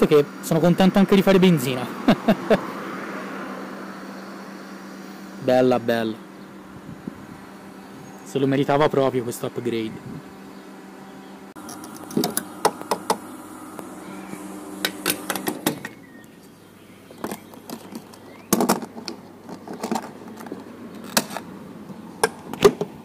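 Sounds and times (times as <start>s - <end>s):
petrol pump humming: 0.0s - 23.0s.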